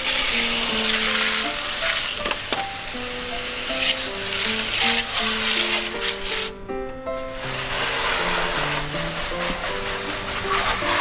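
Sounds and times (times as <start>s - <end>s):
background music melody: 0.0s - 11.0s
hose spraying water on plastic: 0.0s - 11.0s.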